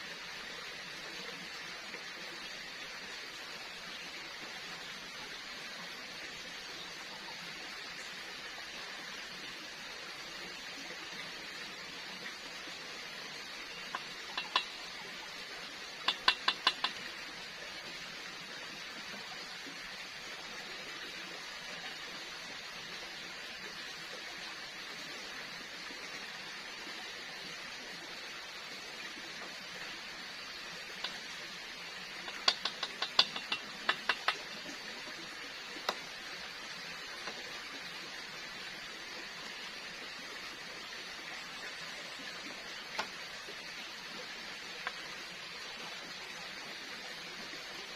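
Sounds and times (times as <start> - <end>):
steady hiss: 0.0 - 47.9.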